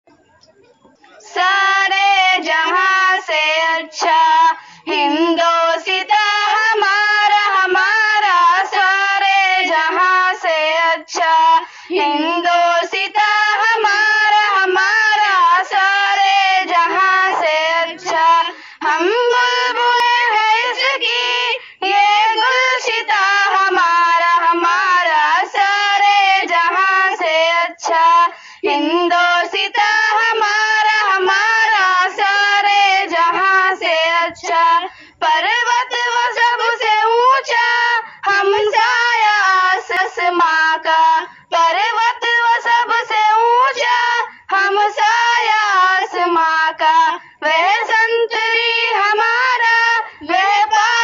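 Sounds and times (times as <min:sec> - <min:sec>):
child singing in a high voice: 0:01.1 - 0:51.0.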